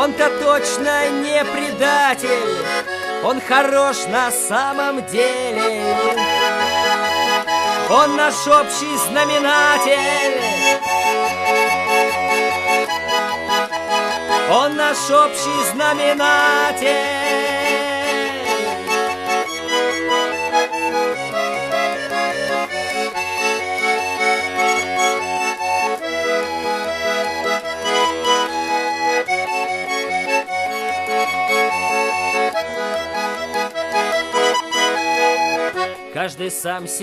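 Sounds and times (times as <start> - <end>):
accordion melody: 0.0 - 37.0.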